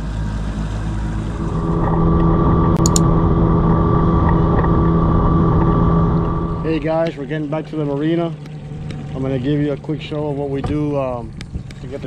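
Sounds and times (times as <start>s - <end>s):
outboard motor running: 0.0s - 12.0s
water and wind noise: 0.0s - 12.0s.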